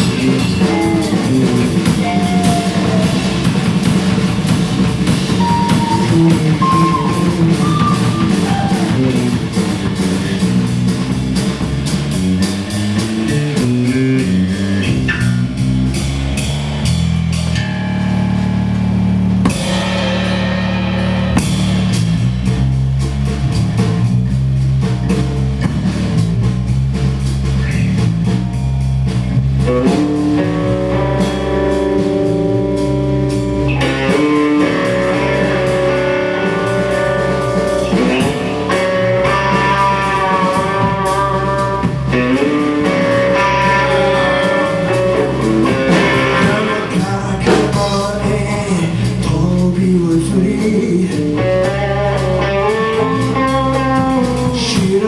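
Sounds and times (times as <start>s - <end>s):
lead guitar: 0.0s - 21.9s, 27.6s - 49.3s, 50.2s - 55.0s
bass: 0.0s - 55.0s
drum kit: 0.0s - 55.0s.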